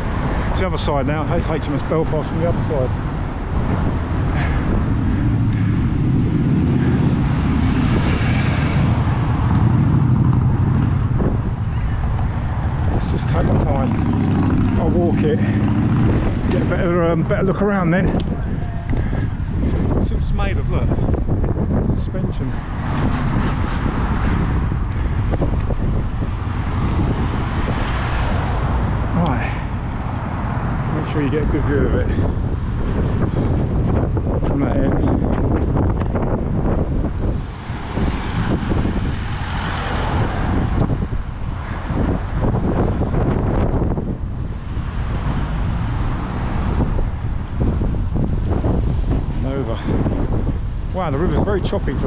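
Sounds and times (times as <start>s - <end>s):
road traffic passing: 0.0s - 52.0s
wind buffeting microphone: 0.0s - 52.0s.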